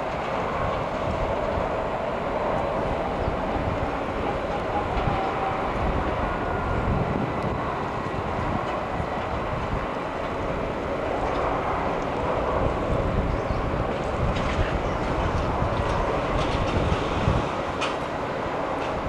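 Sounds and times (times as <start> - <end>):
jet engines rumbling: 0.0 - 19.0
wind on microphone: 0.0 - 19.0.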